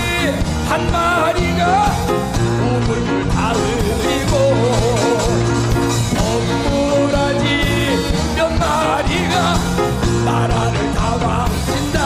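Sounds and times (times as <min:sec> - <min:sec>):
bass notes: 0:00.0 - 0:12.0
drum beats: 0:00.0 - 0:12.0
guitar: 0:00.0 - 0:12.0.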